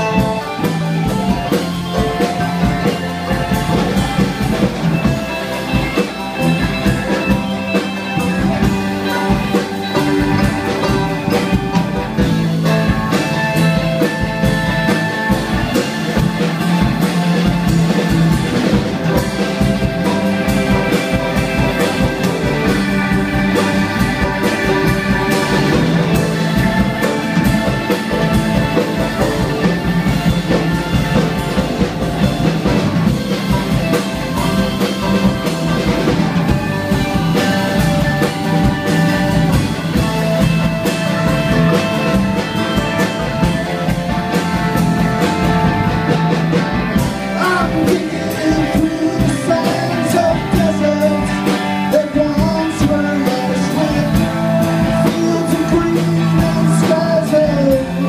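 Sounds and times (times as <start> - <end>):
bass: 0.0 - 58.0
drum kit: 0.0 - 58.0
electric guitar: 0.0 - 58.0
keyboards: 0.0 - 58.0.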